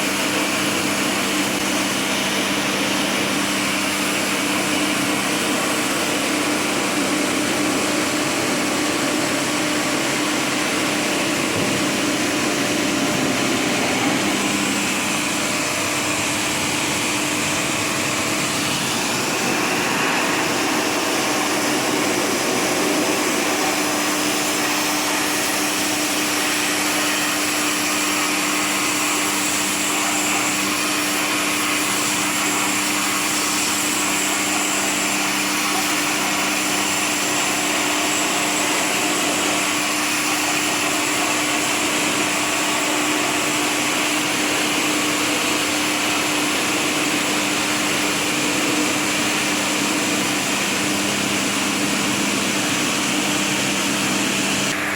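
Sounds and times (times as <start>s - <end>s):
pressure washer pump humming: 0.0s - 54.9s
water jet hissing: 0.0s - 54.9s.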